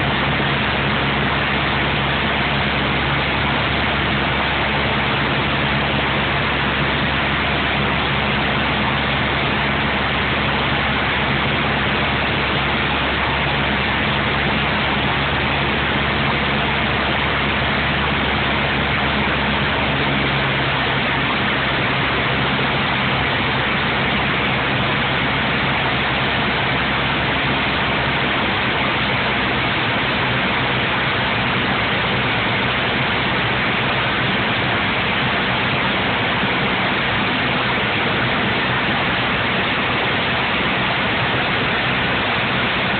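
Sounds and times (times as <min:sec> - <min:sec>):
light aircraft engine drone: 0:00.0 - 0:42.9.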